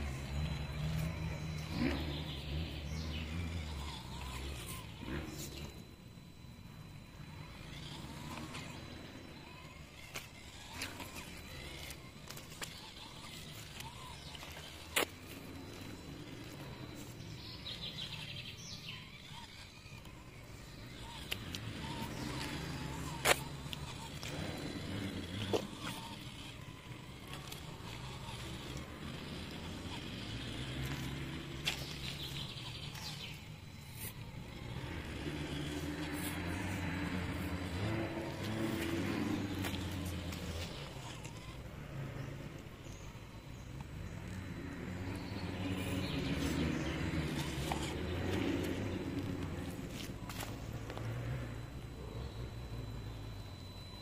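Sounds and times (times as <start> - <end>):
birds chirping: 0.0 - 54.0
toy car motor running unevenly: 0.0 - 54.0.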